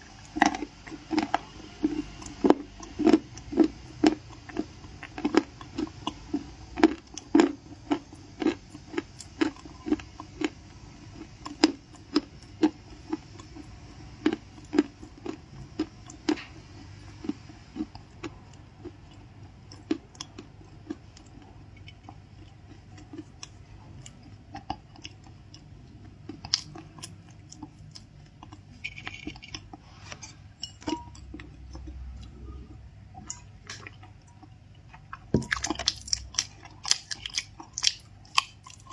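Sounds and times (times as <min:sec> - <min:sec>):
chewing crunchy cookies: 0:00.0 - 0:38.9.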